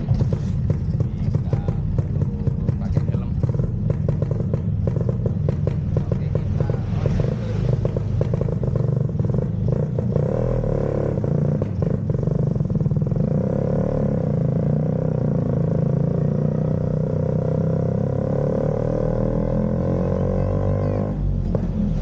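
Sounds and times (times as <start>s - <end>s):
scooter engine accelerating: 0.0s - 22.0s.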